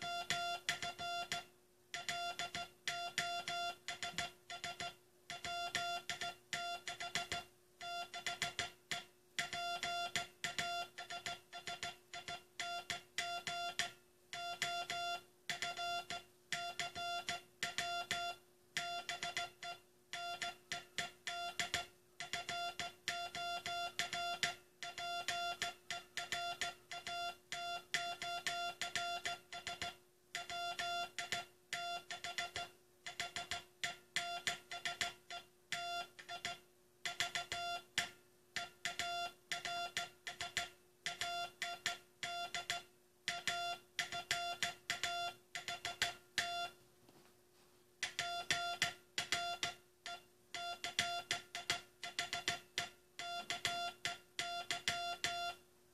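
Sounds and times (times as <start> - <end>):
morse code beeps: 0.0 - 37.9, 38.6 - 46.8, 48.0 - 55.6
faint steady hum: 0.0 - 55.9.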